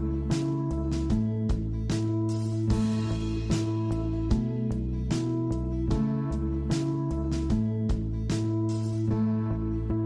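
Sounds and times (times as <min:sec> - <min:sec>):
strummed acoustic guitar: 0:00.0 - 0:10.0
sustained bass notes: 0:00.0 - 0:10.0.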